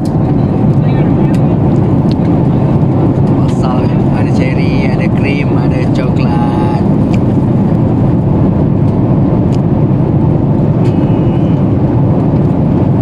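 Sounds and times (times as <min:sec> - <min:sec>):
airliner cabin engine rushing: 0:00.0 - 0:13.0.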